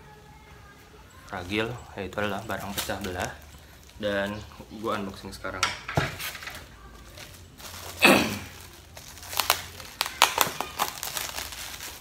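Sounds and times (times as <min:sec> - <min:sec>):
plastic wrap crinkling: 0:01.2 - 0:05.3, 0:06.1 - 0:12.0.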